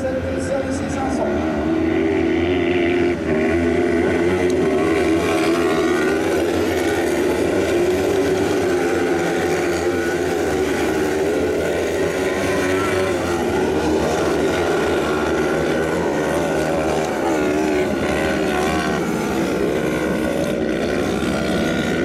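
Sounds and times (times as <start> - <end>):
buggy engines racing: 0.0 - 22.0.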